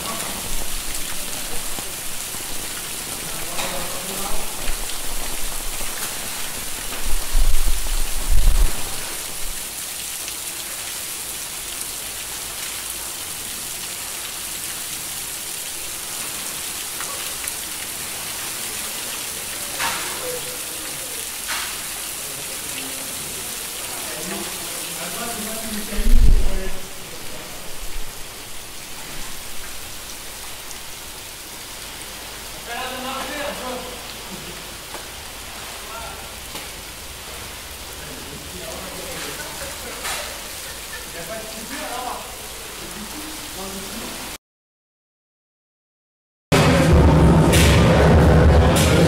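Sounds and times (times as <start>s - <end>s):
falling water hiss: 0.0s - 44.4s.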